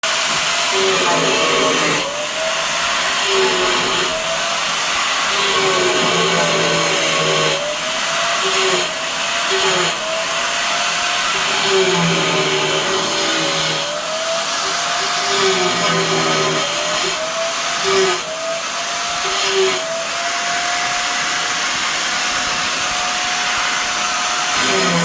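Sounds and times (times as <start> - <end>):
power saw cutting tile: 0.0 - 25.0.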